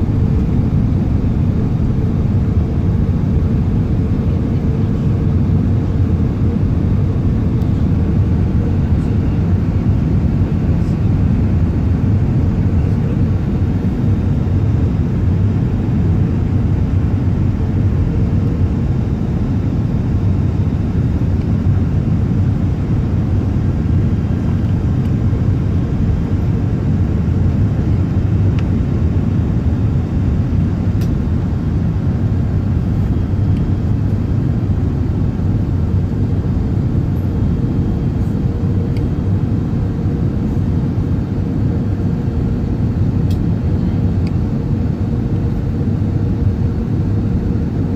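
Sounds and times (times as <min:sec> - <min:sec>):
airplane cabin engine rumble: 0:00.0 - 0:47.9
faint hum: 0:00.0 - 0:47.9.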